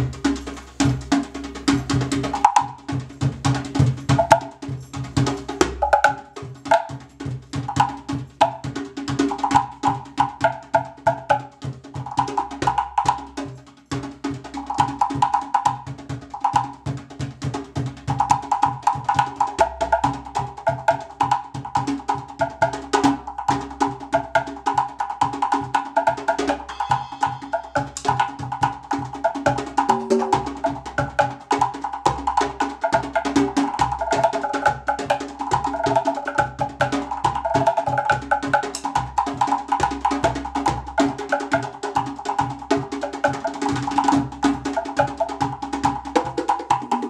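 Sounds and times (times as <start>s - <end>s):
wooden box drum rhythm: 0.0s - 47.0s.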